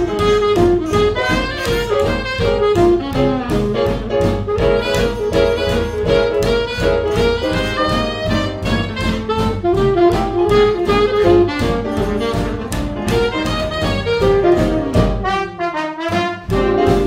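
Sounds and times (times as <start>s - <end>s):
swing jazz band playing: 0.0s - 17.0s.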